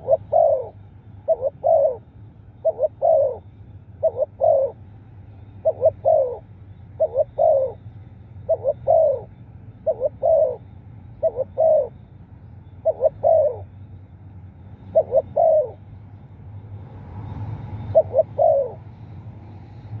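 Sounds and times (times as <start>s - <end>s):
dove cooing: 0.0s - 13.9s, 14.7s - 15.9s, 17.7s - 19.8s.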